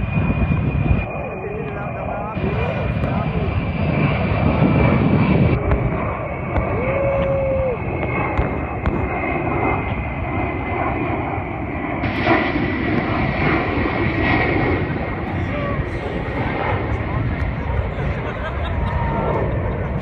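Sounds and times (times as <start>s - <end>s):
jet engines droning: 0.0s - 20.0s.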